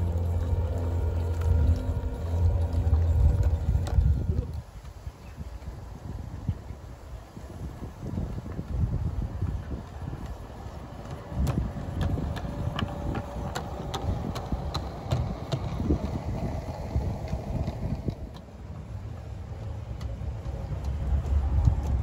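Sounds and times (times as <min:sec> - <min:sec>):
low rumble: 0:00.0 - 0:06.7, 0:08.1 - 0:22.0
faint motor hum: 0:00.0 - 0:22.0.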